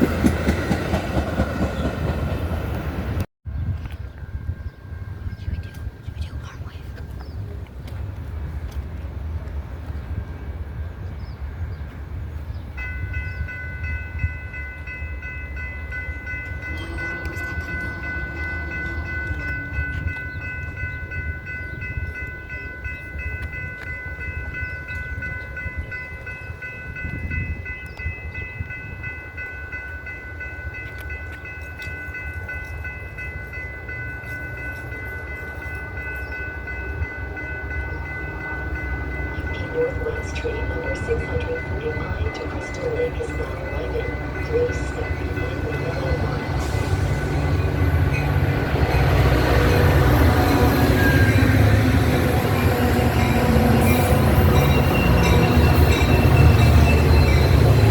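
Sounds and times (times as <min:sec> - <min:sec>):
train rumbling on rails: 0:00.0 - 0:57.9.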